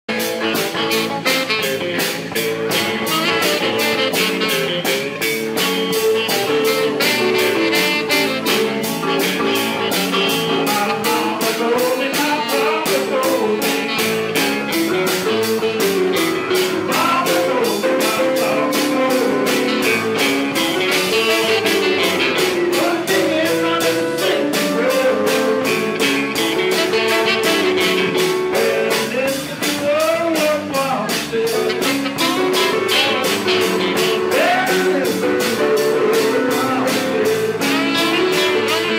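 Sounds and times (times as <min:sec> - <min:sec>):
drum kit beat: 0:00.1 - 0:38.9
electric guitar: 0:00.1 - 0:38.9.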